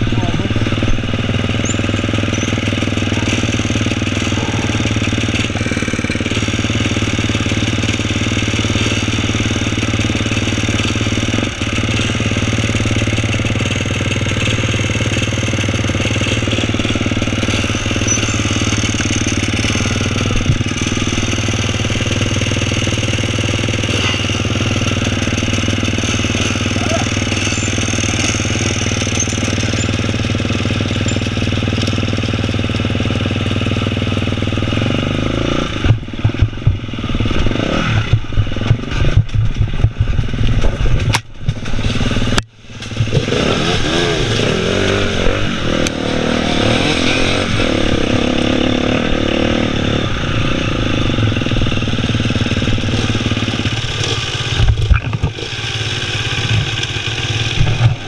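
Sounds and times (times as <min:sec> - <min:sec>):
engine knocks and clatter: 0:00.0 - 0:58.0
motorcycle engine revving: 0:00.0 - 0:58.0.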